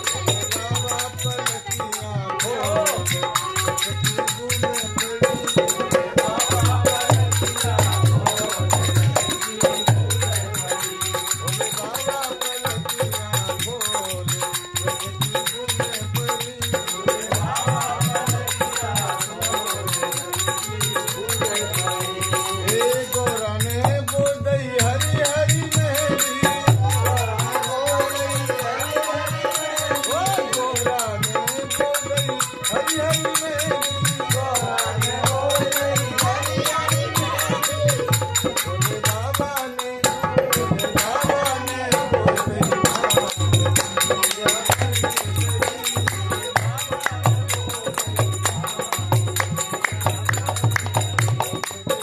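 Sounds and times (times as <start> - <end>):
hand percussion: 0.0 - 52.0.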